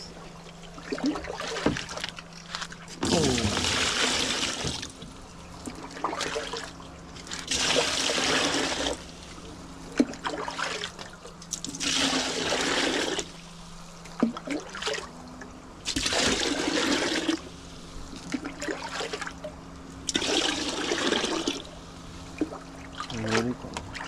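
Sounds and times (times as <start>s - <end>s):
steady low hum: 0.0s - 24.0s
water gushing: 0.7s - 2.3s, 2.9s - 13.4s, 14.2s - 15.2s, 15.8s - 17.6s, 18.2s - 19.5s, 20.1s - 24.0s.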